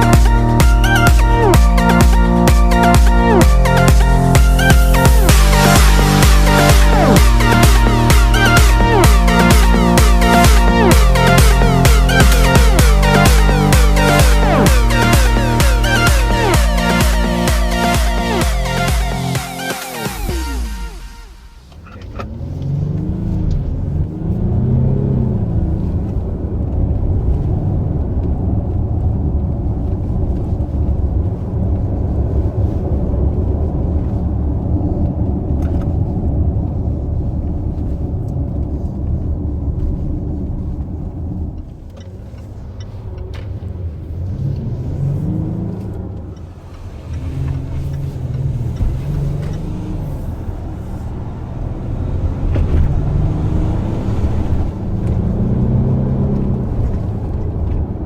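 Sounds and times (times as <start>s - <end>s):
diesel engine rumbling and revving: 0.0s - 58.0s.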